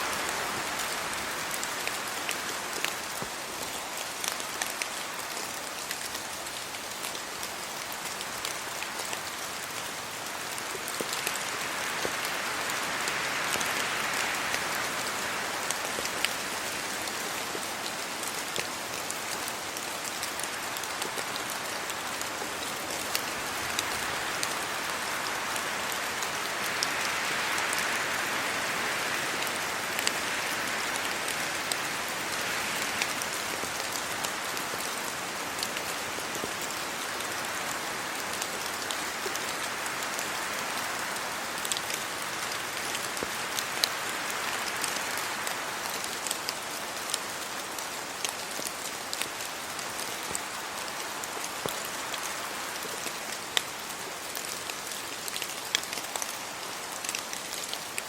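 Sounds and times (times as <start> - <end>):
steady rain on trees: 0.0 - 58.0
wind through wet leaves: 0.0 - 58.0.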